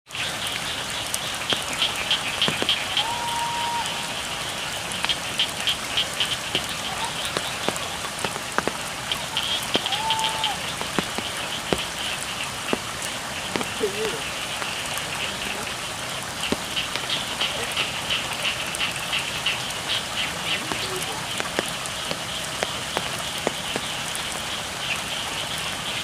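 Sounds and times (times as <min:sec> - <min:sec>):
frogs calling: 0:00.1 - 0:26.0
rain on a field: 0:00.1 - 0:26.0
water dripping: 0:00.1 - 0:26.0.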